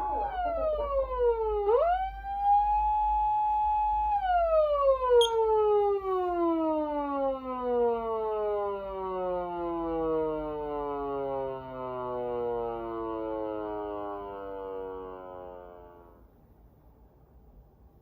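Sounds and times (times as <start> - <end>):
electronic siren wailing: 0.0 - 16.2.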